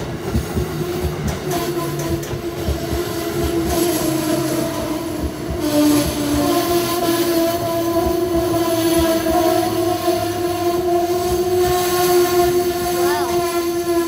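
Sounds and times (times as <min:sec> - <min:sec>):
train passing with rumble: 0:00.0 - 0:14.0
wheels clacking over rail joints: 0:00.0 - 0:14.0.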